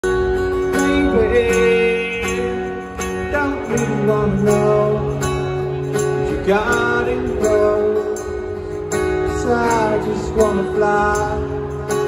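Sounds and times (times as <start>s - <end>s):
bass guitar: 0.0s - 12.0s
electric and acoustic guitars: 0.0s - 12.0s.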